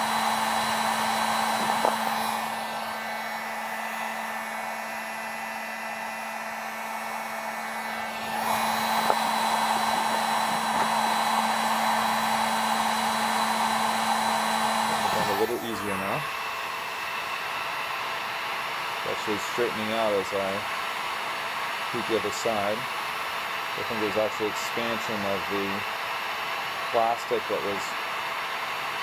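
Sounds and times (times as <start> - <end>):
heat gun fan blowing: 0.0 - 29.0.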